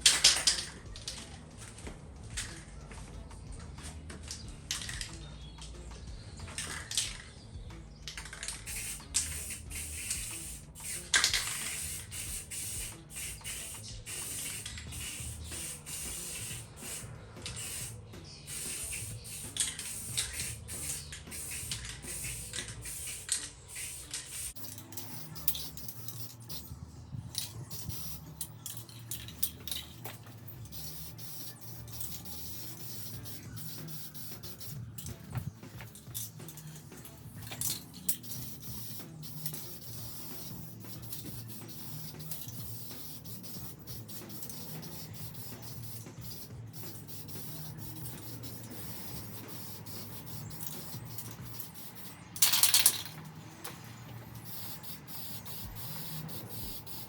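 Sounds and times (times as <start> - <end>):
aerosol spray can hissing: 8.2 - 57.0.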